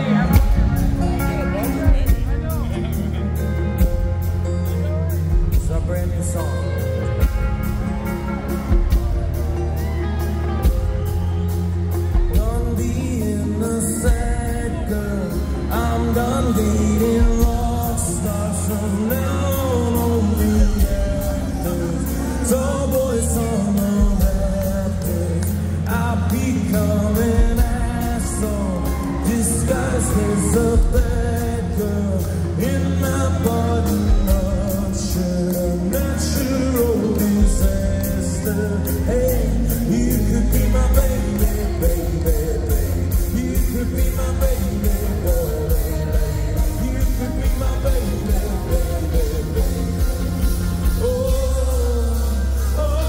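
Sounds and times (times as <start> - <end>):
live rock band playing: 0.0 - 53.0
steady drum beat: 0.0 - 53.0.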